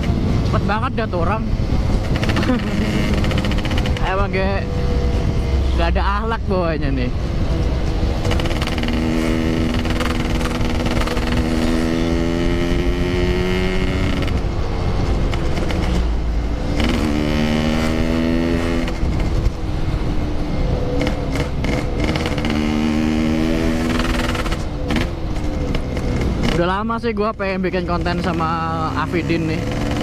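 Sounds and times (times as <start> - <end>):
wind rush: 0.0 - 28.9
motorcycle engine accelerating: 0.0 - 30.0.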